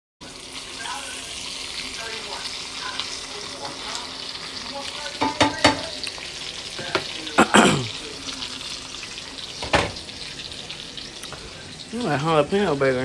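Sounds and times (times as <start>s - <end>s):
patties sizzling in oil: 0.2s - 13.0s.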